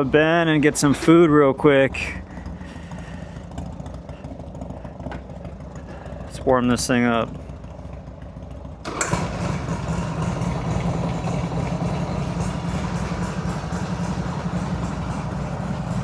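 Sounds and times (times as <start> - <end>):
motorcycle engine starting and idling: 0.0 - 16.0.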